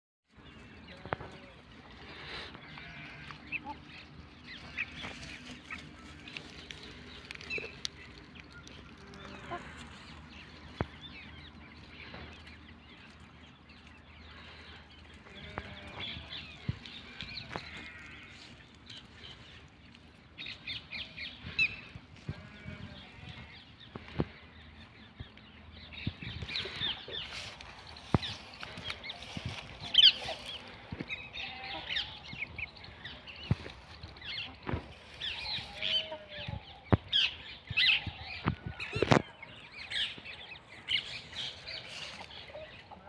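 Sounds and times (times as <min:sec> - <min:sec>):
poultry clucking: 0:00.4 - 0:43.0.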